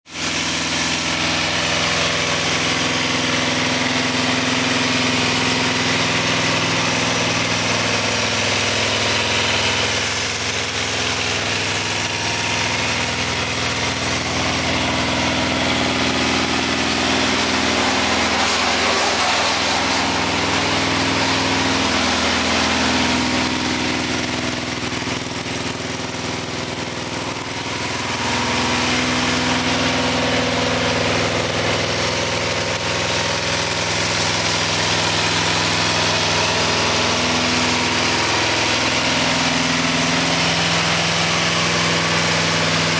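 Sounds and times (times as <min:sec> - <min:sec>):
motorcycle engine idling: 0:01.1 - 0:42.9.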